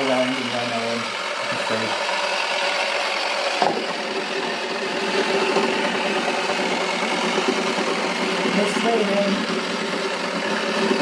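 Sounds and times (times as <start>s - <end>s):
small motor running: 0.0s - 11.0s.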